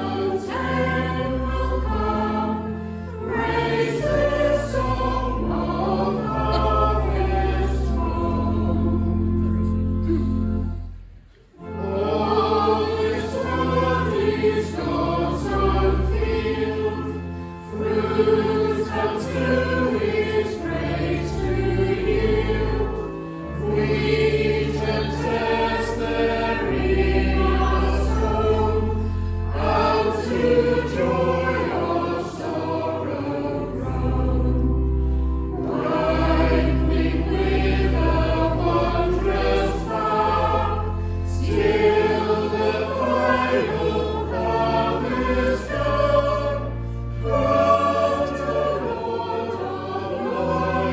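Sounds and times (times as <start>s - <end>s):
congregation and choir singing hymn: 0.0s - 10.9s, 11.5s - 50.9s
organ: 0.0s - 50.9s.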